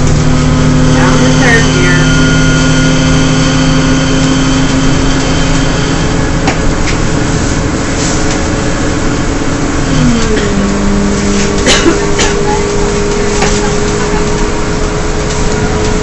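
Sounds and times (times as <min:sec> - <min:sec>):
bus drivetrain howl: 0:00.0 - 0:16.0
tyres on wet pavement: 0:00.0 - 0:16.0.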